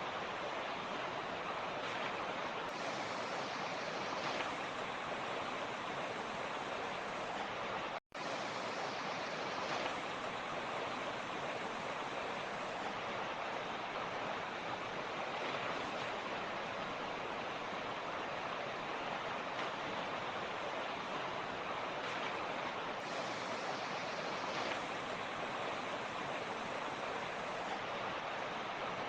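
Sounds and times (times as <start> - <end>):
creek water rushing: 0.0 - 29.0.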